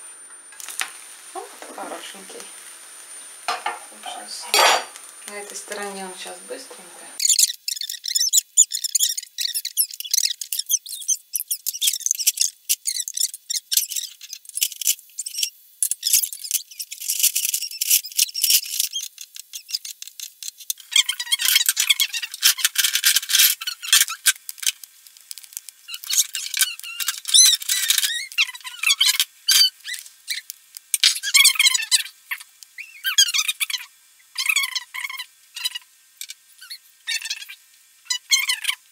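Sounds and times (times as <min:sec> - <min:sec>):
pancake sizzling in a pan: 0:00.0 - 0:38.9.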